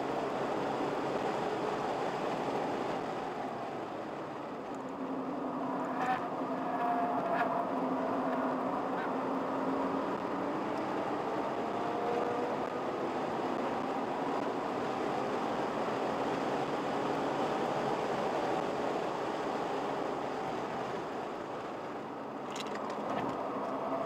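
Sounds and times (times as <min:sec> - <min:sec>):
car engine from inside cabin: 0:00.1 - 0:21.3.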